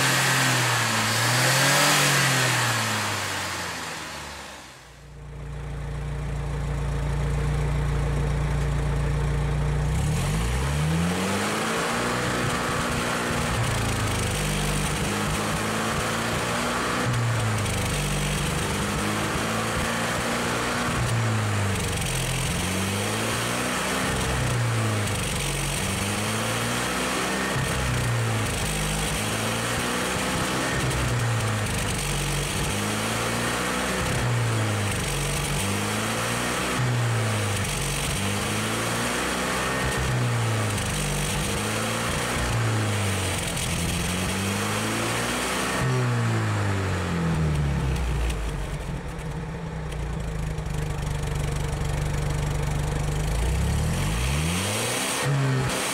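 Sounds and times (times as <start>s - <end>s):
engine revving and idling: 0.0s - 55.9s.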